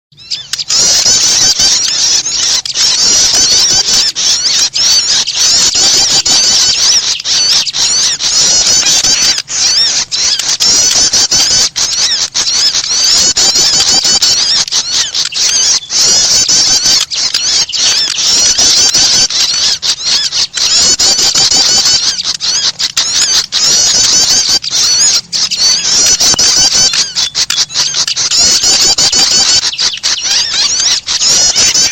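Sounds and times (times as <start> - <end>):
high-pitched bird lure chirps: 0.2 - 31.9.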